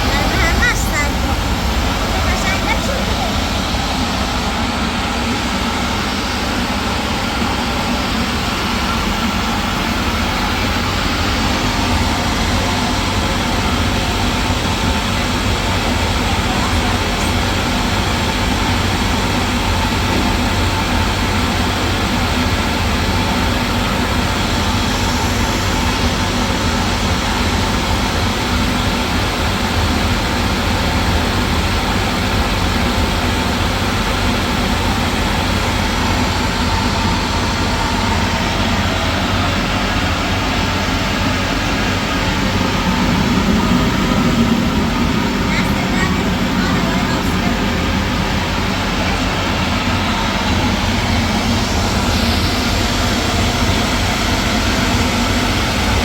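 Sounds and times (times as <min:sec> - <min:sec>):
machine running with low hum: 0:00.0 - 0:56.0.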